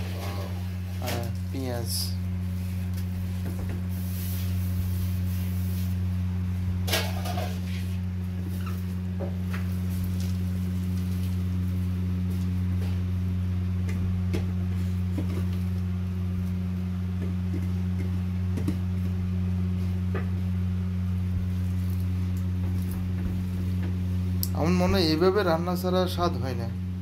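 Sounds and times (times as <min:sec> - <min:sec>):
onions rustling in a pot: 0:00.0 - 0:25.2
steady low hum: 0:00.0 - 0:27.0.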